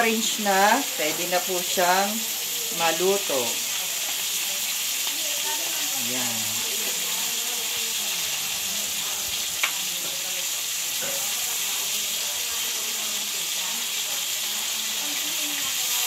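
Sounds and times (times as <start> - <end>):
shrimp sizzling in a pan: 0.0 - 16.0.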